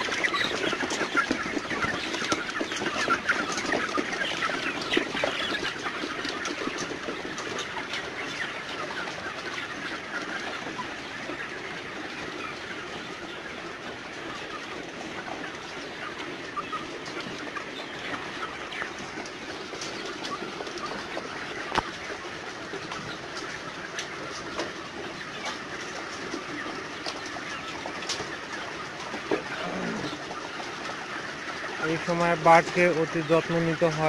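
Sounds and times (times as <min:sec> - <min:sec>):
chickens clucking and calling: 0:00.0 - 0:34.0.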